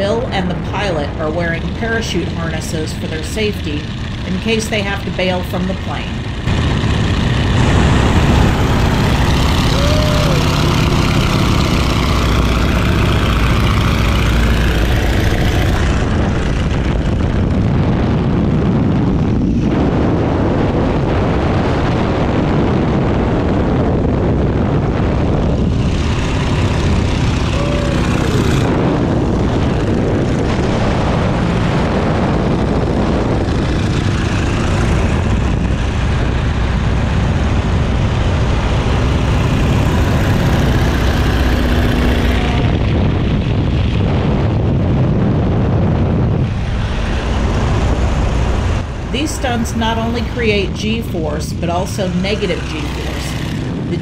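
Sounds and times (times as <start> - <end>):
plane engine drone: 0.0 - 54.0
rushing air: 6.1 - 54.0.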